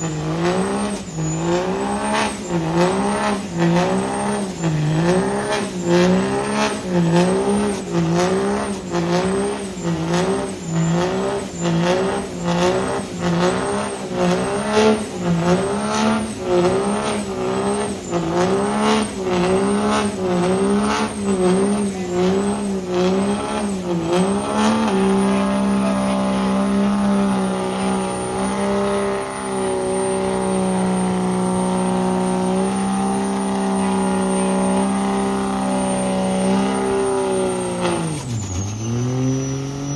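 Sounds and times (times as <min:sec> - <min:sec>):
truck engine revving: 0:00.0 - 0:39.9
turbo whistle: 0:00.0 - 0:39.9.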